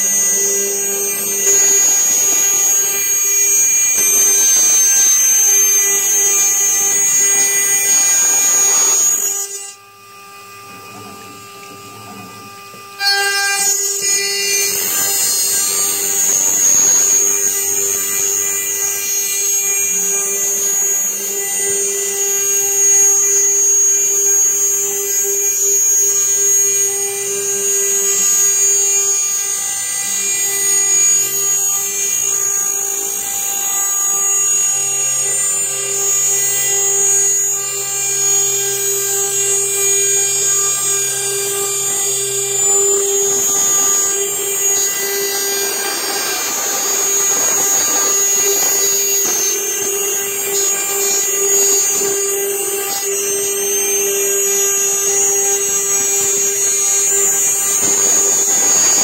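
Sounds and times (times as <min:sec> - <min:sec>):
rough cutting noise: 0:00.0 - 0:09.8, 0:10.7 - 0:59.0
cnc router spindle whine: 0:00.0 - 0:59.0.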